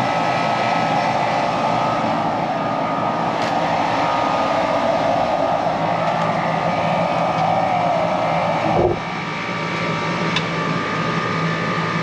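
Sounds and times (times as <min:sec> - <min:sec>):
air conditioning hum and whine: 0:00.0 - 0:12.0.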